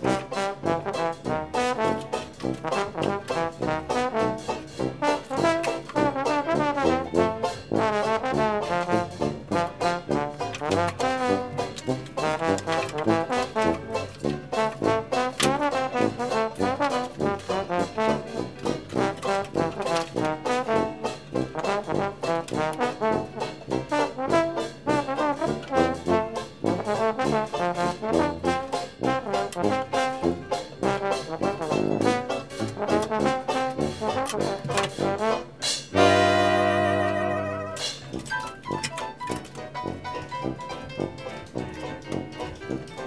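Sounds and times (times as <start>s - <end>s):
brass jazz band playing: 0.0s - 43.0s.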